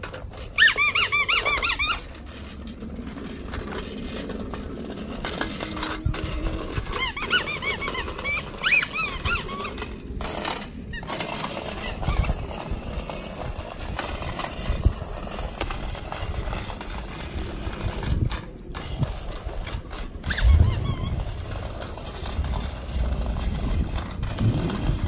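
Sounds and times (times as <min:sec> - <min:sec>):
bike wheels rattling on asphalt: 0:00.0 - 0:25.0.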